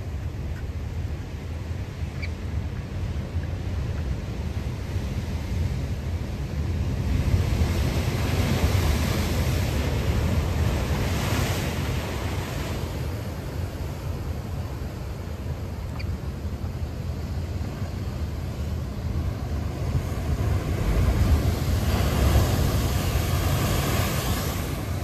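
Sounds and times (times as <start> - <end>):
low surf rumble: 0.0 - 25.0
waves breaking: 4.1 - 25.0.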